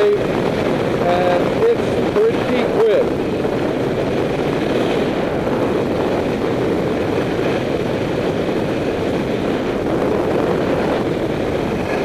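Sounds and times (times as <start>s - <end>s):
wind rushing past microphone: 0.0s - 12.0s.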